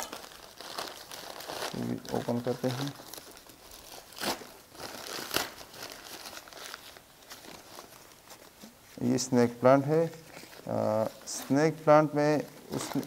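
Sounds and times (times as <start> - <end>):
newspaper wrapping rustling: 0.0 - 13.0.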